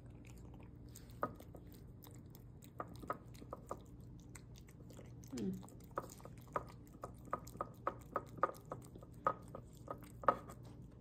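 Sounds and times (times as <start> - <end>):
cat chewing wet food: 0.0 - 11.0.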